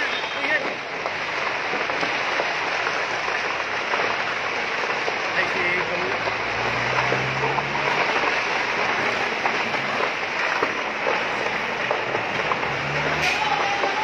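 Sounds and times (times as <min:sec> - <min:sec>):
fire rushing and crackling: 0:00.0 - 0:14.0
water spraying from fire hose: 0:00.0 - 0:14.0.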